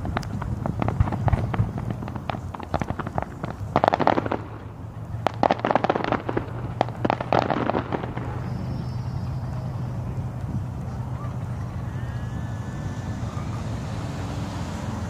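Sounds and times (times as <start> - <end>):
fireworks crackling pops: 0.0 - 12.2.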